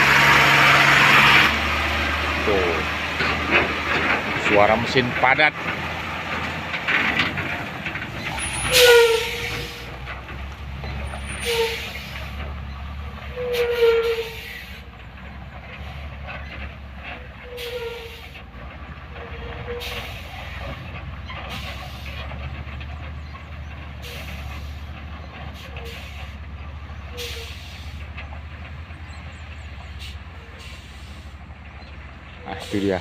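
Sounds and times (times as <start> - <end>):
truck diesel engine under load: 0.0 - 33.0.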